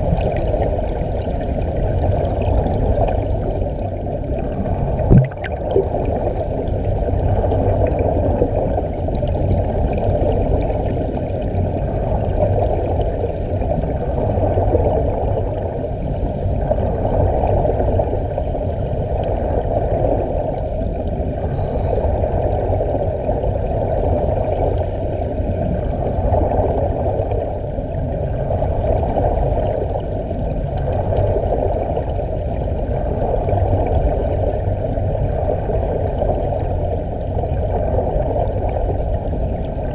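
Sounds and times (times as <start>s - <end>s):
muffled underwater bubbling: 0.0s - 39.9s.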